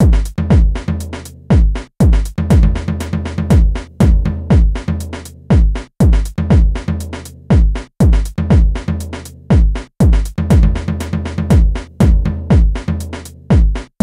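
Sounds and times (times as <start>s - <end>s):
electronic music with drum-machine beat: 0.0s - 14.0s.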